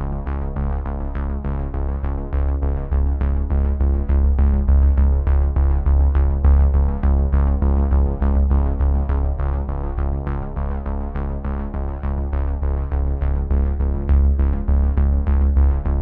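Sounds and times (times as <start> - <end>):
heavy bass line: 0.0 - 16.0.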